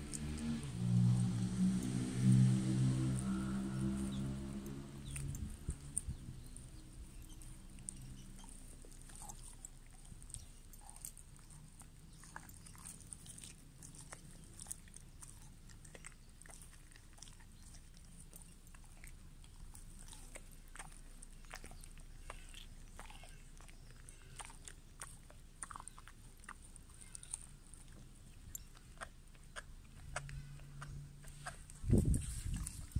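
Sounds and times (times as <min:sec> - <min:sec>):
dog chewing meat: 0:00.0 - 0:32.9.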